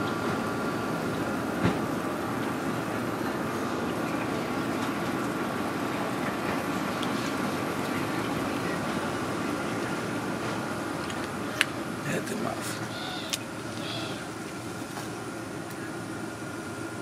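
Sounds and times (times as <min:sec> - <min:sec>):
faint constant whine: 0:00.0 - 0:17.0.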